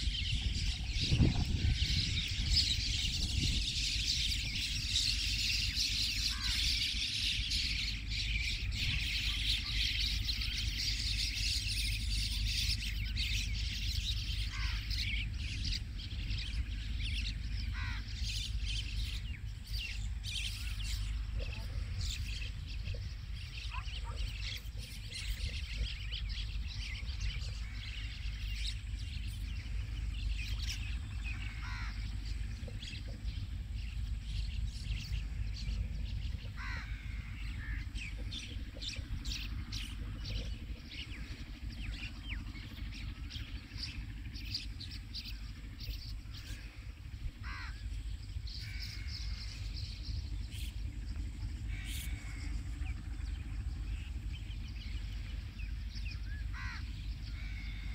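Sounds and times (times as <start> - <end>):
birds calling and chirping: 0.0 - 57.9
steady low rumble: 0.0 - 57.9.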